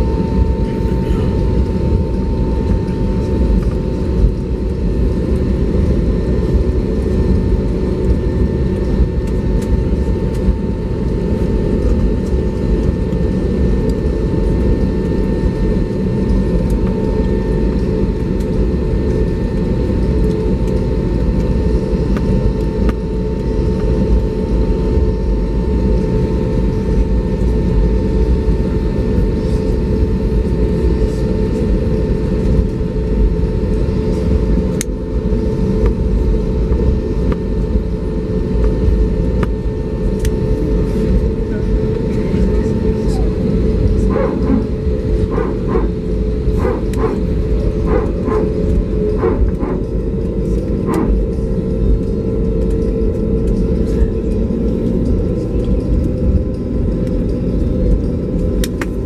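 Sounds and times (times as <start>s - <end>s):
aircraft cabin rumble: 0.0s - 59.0s
thin steady whine: 0.0s - 59.0s.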